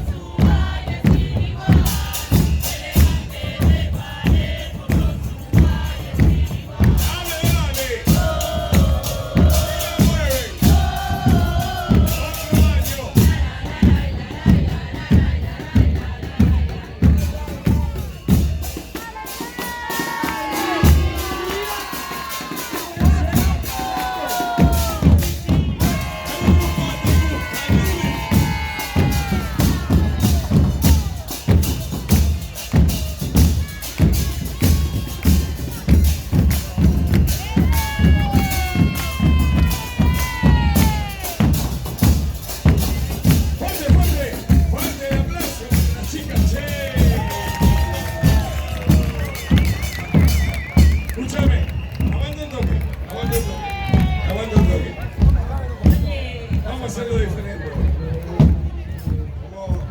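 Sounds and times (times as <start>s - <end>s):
bass drums with cymbal: 0.0s - 59.9s
voices singing and shouting: 0.0s - 59.9s.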